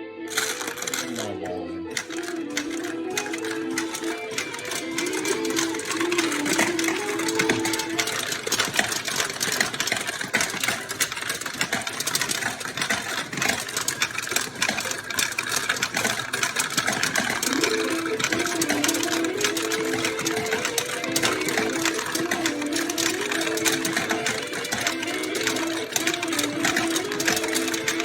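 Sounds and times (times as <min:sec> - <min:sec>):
steel balls rattling through pins: 0:00.3 - 0:28.0.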